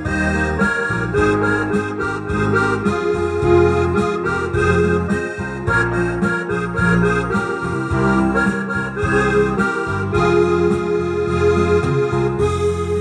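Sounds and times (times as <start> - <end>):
keyboard accordion-like melody: 0.0 - 13.0
steady bass accompaniment: 0.0 - 13.0.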